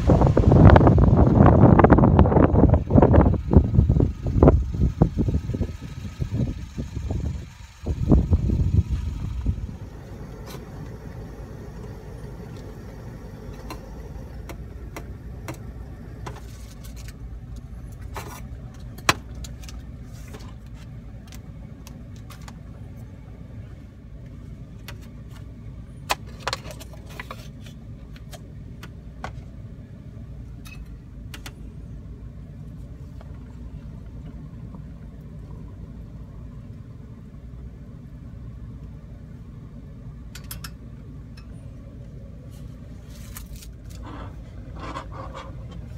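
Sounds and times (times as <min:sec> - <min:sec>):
steady low rumble: 0:00.0 - 0:26.4, 0:27.0 - 0:45.9.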